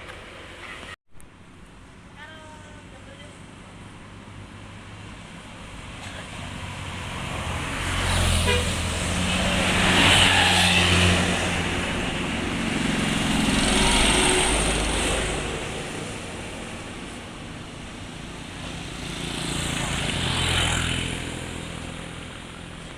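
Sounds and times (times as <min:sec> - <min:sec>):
vehicles driving past: 0:00.0 - 0:22.9.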